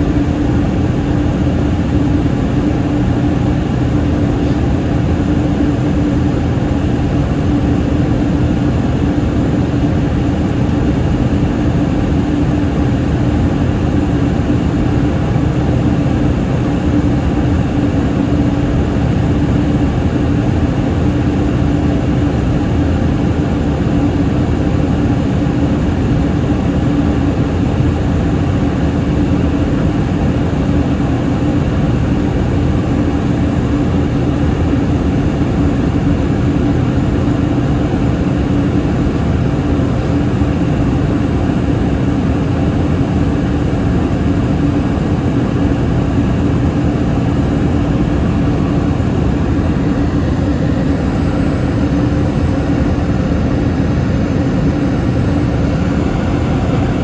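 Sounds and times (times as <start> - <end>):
constant low hum: 0.0 - 57.0
jet engines and airflow rushing: 0.0 - 57.0.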